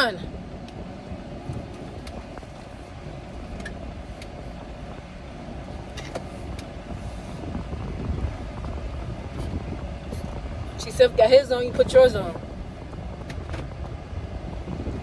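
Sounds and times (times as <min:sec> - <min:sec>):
car engine hum inside cabin: 0:00.0 - 0:15.0.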